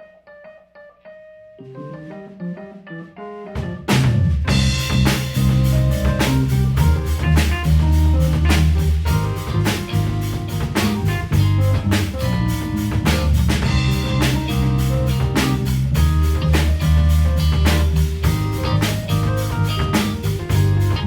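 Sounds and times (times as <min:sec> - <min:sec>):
soft keyboard notes: 0:01.5 - 0:21.0
live band playing: 0:02.0 - 0:21.0
steady drum hits: 0:03.6 - 0:21.0.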